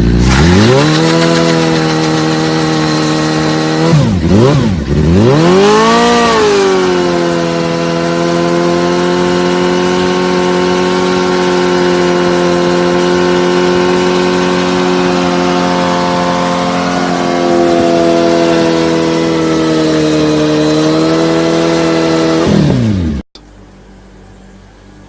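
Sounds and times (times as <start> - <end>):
motorcycle engine revving: 0.0 - 23.3.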